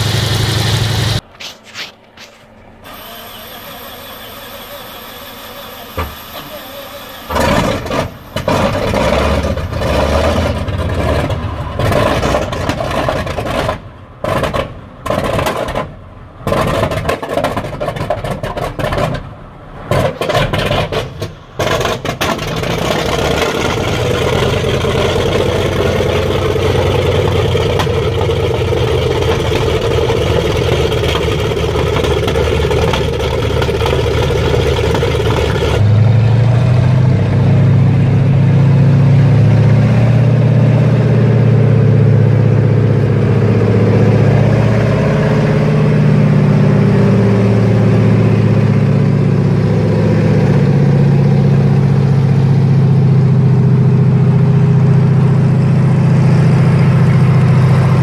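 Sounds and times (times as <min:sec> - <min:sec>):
tank engine starting and running: 0:00.0 - 0:58.0.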